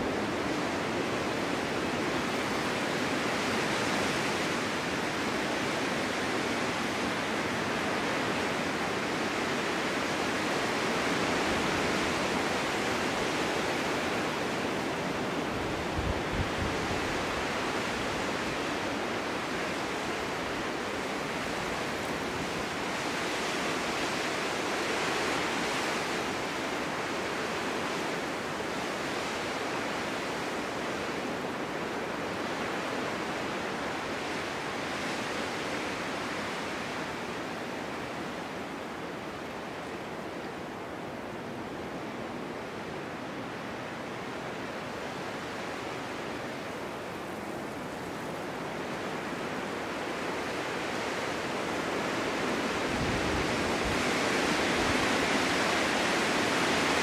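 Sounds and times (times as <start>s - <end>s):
snowstorm wind blowing: 0.0s - 57.0s.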